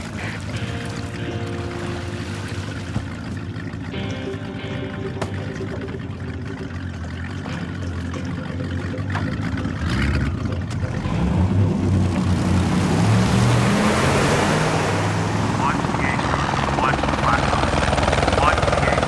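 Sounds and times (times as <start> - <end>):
rushing water and wind: 0.0 - 19.0
speedboat engine drone: 0.0 - 19.0.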